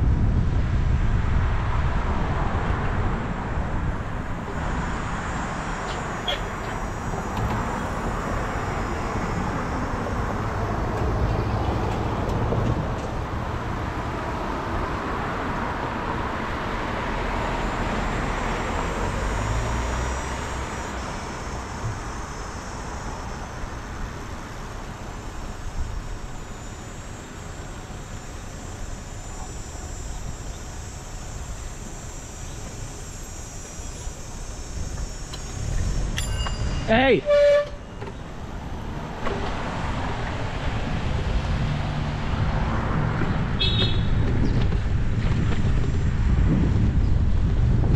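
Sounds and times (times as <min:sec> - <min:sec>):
passing cars: 0:00.0 - 0:47.9.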